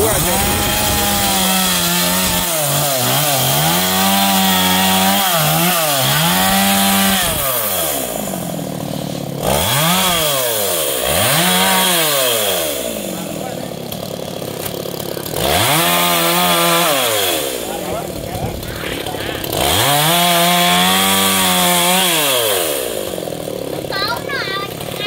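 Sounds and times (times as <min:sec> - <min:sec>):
chainsaw cutting and revving: 0:00.0 - 0:25.0.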